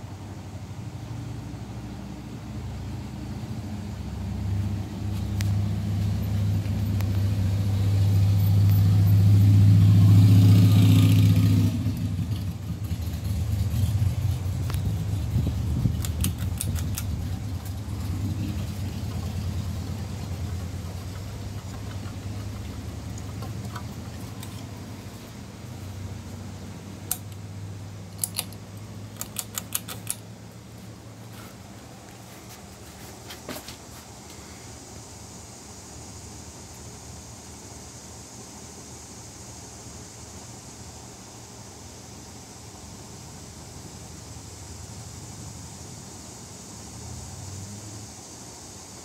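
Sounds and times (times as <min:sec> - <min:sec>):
ceiling fan humming: 0:00.0 - 0:49.0.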